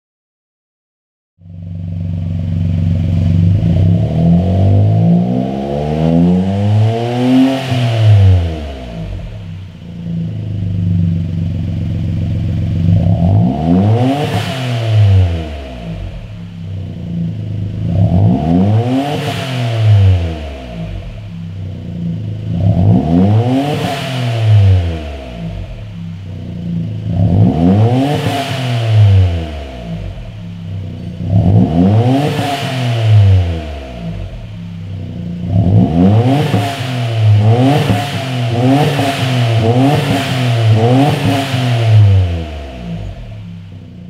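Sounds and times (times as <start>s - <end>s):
car engine revving: 1.5s - 44.0s.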